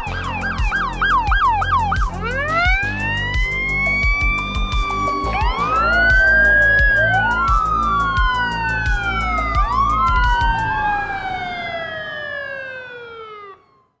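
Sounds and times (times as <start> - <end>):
background music with beat: 0.0 - 11.4
fire engine sirens wailing: 0.0 - 14.0.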